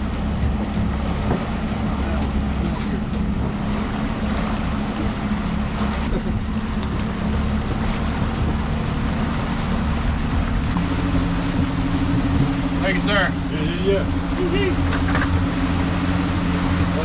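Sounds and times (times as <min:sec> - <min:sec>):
boat wake rushing: 0:00.0 - 0:17.0
outboard motor humming: 0:00.0 - 0:17.0
wind: 0:00.0 - 0:17.0.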